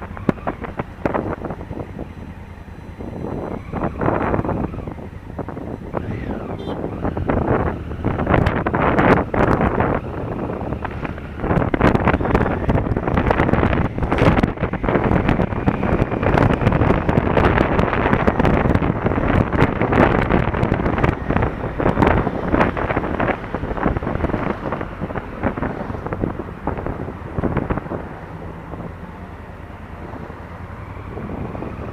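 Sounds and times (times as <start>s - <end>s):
gusts crackling on microphone: 0.0s - 2.2s, 3.0s - 29.1s, 29.9s - 31.9s
motorcycle engine running: 0.0s - 31.9s
wind buffeting microphone: 0.0s - 31.9s.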